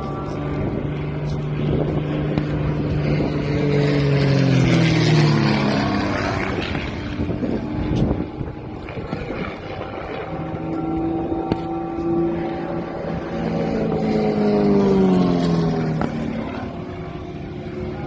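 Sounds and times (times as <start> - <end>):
aircraft engine drone: 0.0 - 18.0.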